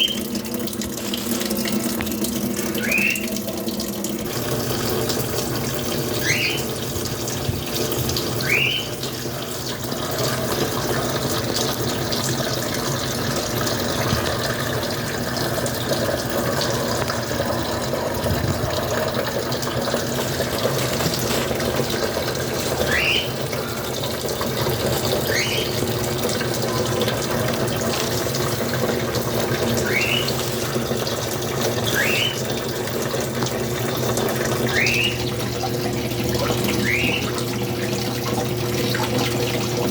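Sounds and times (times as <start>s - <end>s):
washing machine filling with water: 0.0s - 39.9s.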